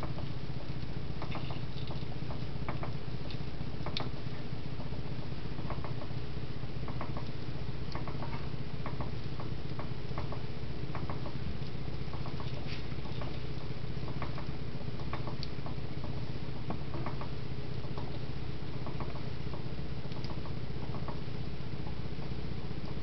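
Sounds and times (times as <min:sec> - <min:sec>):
pan humming on stove: 0:00.0 - 0:23.0.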